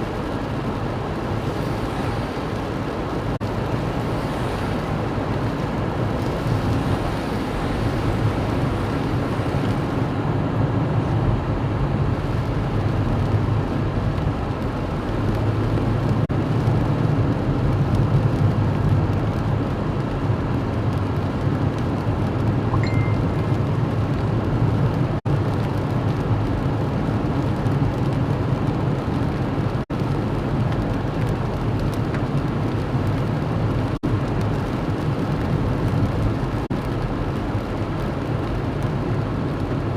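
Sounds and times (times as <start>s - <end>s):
heavy rain: 0.0s - 39.9s
vehicle moving rumble: 0.0s - 39.9s.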